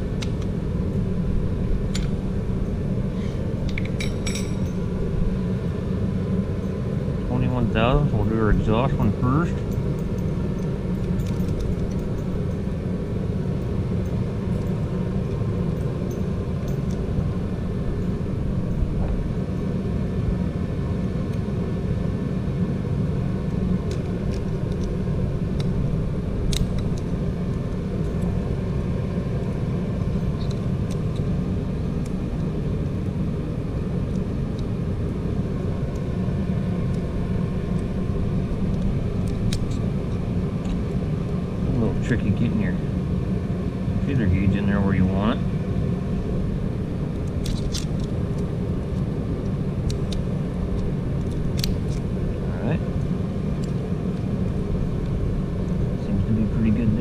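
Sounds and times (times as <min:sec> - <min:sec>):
low engine rumble: 0:00.0 - 0:57.0.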